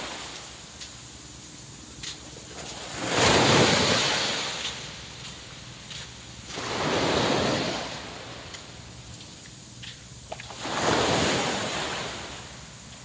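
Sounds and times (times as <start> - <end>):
waves washing up beach: 0.0 - 13.0.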